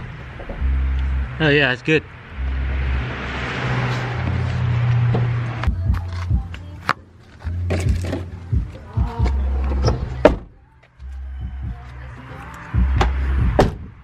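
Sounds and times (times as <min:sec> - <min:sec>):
music with heavy bass beat: 0:00.0 - 0:01.6, 0:03.9 - 0:14.0.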